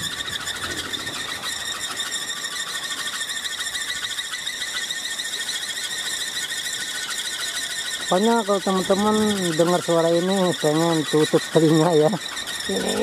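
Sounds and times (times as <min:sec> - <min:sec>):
shrill squeal of spinning propeller: 0:00.0 - 0:13.0.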